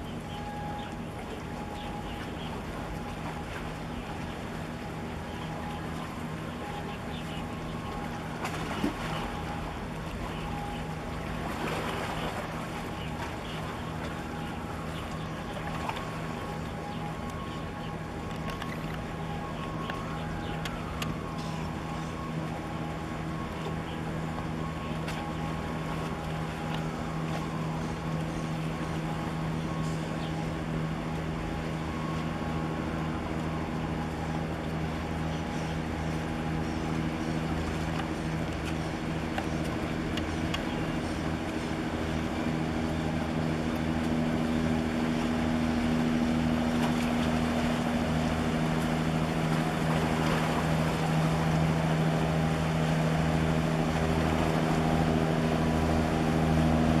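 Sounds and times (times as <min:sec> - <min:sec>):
boat diesel engines droning: 0:00.0 - 0:57.0.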